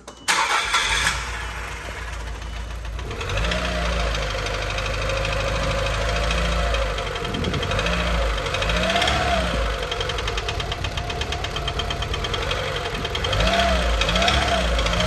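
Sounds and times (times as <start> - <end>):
car engine idling with knock: 1.9 - 15.0.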